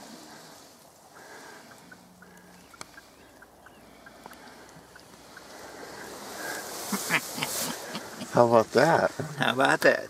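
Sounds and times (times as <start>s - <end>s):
wild turkey calling: 1.0s - 9.5s.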